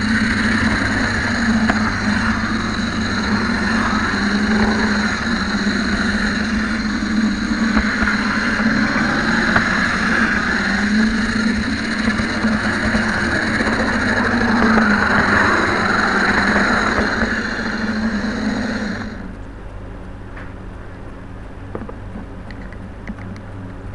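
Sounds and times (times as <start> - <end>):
model train motor whirring: 0.0 - 19.4.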